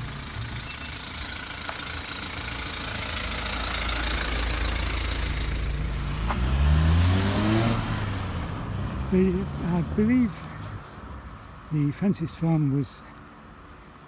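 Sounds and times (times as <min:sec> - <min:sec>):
car passing close: 0:00.0 - 0:11.7.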